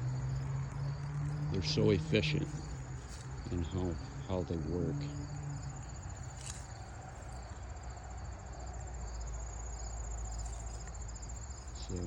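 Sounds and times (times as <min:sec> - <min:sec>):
crickets trilling: 0:00.0 - 0:12.0
second insect trill: 0:00.0 - 0:12.0.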